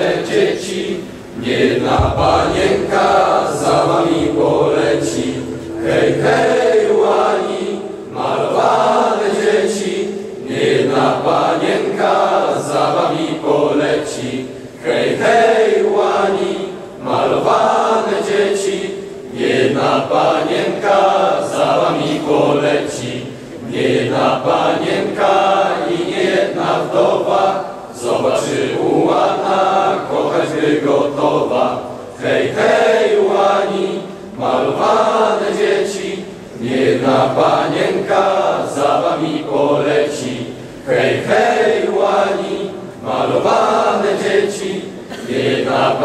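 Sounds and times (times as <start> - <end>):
choir singing: 0.0 - 46.0.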